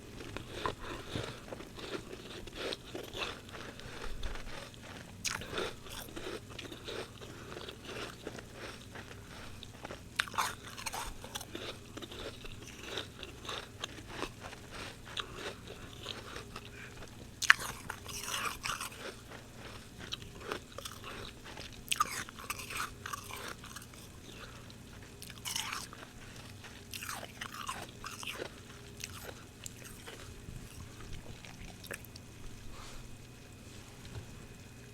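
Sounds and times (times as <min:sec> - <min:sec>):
crunching and chewing frost: 0:00.0 - 0:34.9.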